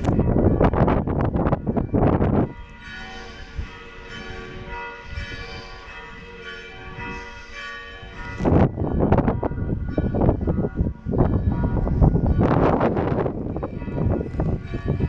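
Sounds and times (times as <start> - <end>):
church bells ringing: 0.0 - 15.0
wind buffeting microphone: 0.0 - 15.0.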